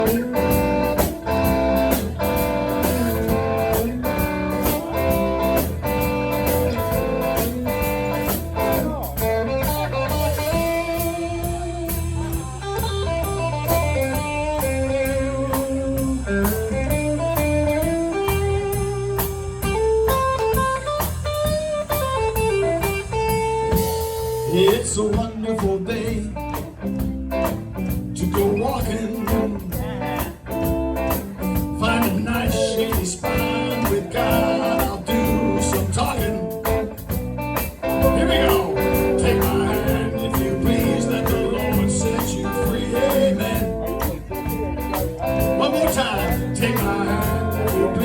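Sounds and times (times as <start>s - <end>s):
drum kit playing: 0.0s - 48.0s
sliding lead guitar melody: 0.0s - 48.0s
strummed guitar chords: 0.0s - 48.0s.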